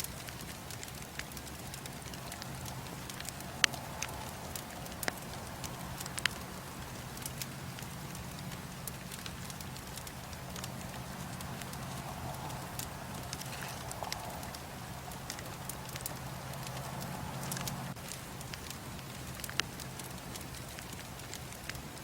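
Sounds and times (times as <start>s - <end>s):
steady low hum: 0.0s - 21.7s
bonfire popping and crackling: 0.0s - 22.0s.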